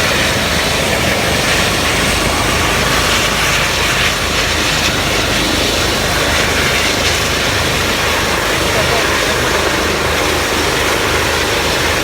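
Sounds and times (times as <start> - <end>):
helicopter rotor and turbine: 0.0 - 12.0.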